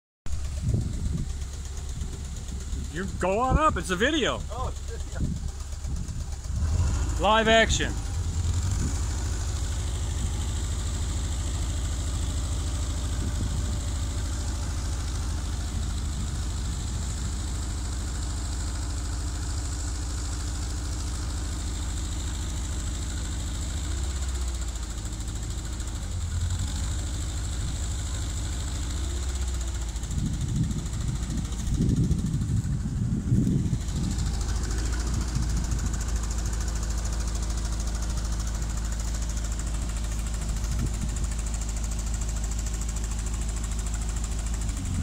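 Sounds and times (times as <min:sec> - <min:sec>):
boom lift engine running: 0:00.3 - 0:45.0.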